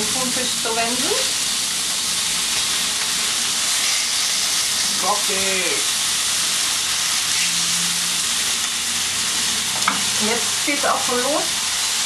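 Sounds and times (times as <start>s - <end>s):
fish sizzling in a hot pan: 0.0s - 12.0s.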